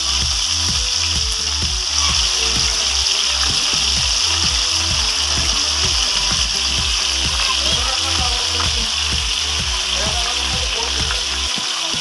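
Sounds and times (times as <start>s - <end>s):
background music with a beat: 0.0s - 12.0s
meat sizzling in hot oil: 0.0s - 12.0s.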